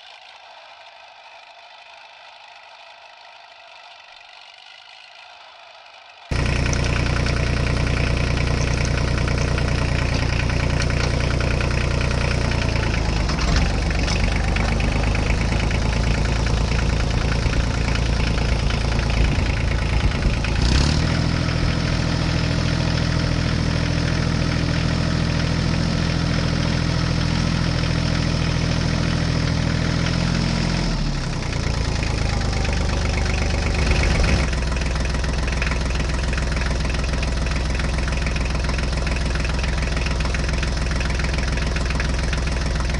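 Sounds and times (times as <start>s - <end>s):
truck engine idling: 4.3s - 42.9s.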